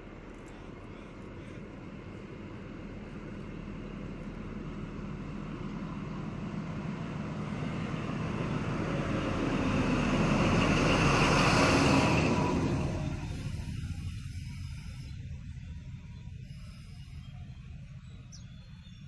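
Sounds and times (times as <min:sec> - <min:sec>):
diesel train rumbling: 0:00.0 - 0:19.0.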